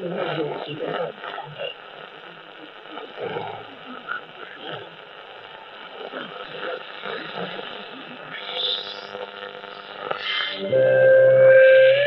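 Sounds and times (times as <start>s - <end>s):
weak radio voice: 0.0s - 10.8s
radio static and hiss: 0.0s - 12.0s.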